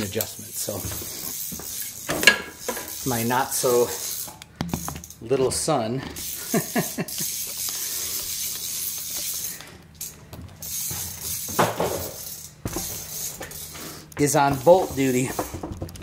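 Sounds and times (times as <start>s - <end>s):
steady hiss: 0.0s - 15.8s.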